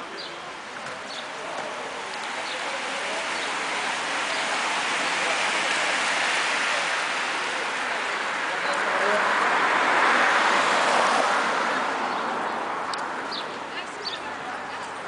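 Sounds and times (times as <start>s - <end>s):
bicycle tyres hissing on wet road: 1.1s - 14.2s.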